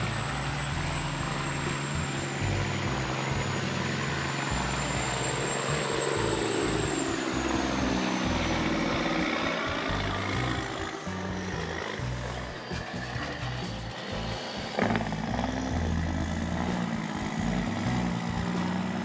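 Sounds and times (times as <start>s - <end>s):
diesel machinery running: 0.0s - 19.0s.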